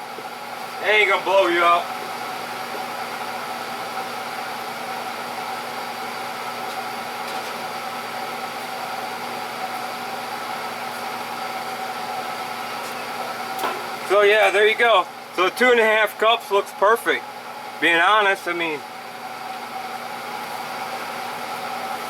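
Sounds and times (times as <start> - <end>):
electrical hum with tones: 0.0 - 22.0.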